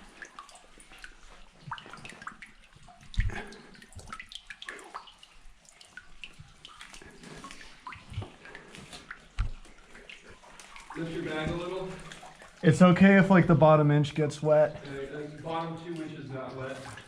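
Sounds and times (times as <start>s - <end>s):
water drips: 0.0s - 17.0s
water splashing from wading: 0.0s - 17.0s.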